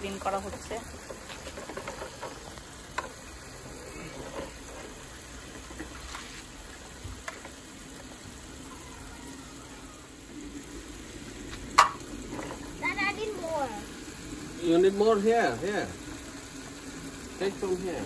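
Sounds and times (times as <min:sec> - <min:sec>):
water running: 0:00.0 - 0:18.0.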